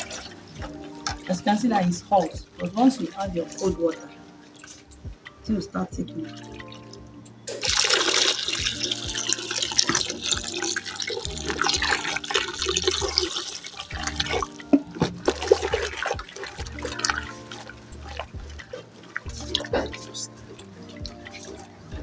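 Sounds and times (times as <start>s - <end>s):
water pouring into a bowl: 0.0s - 5.0s, 6.0s - 22.0s.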